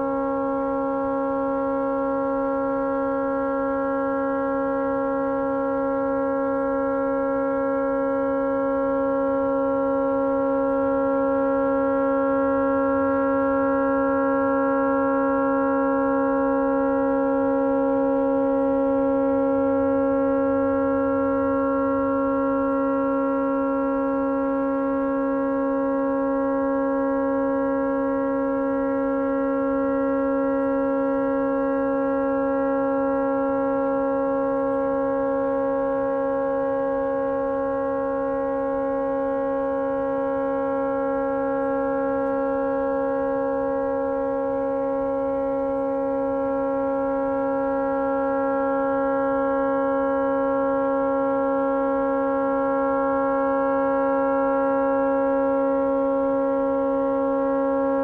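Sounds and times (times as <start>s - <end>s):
tugboat horn continuous chord: 3.3s - 58.0s.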